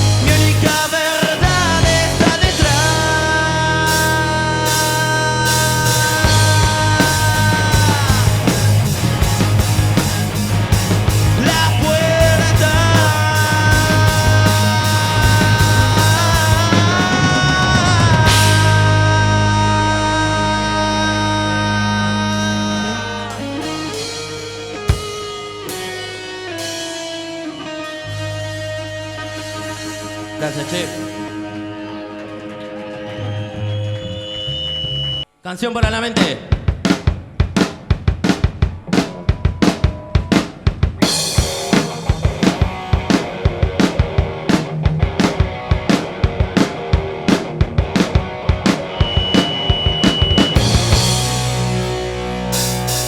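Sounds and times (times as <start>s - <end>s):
drum kit beating: 0.0s - 34.1s, 35.8s - 53.0s
bass guitar: 0.0s - 35.2s, 38.2s - 53.0s
electric guitar: 0.0s - 35.2s, 38.2s - 53.0s
rock band playing: 0.0s - 35.2s, 36.1s - 53.0s.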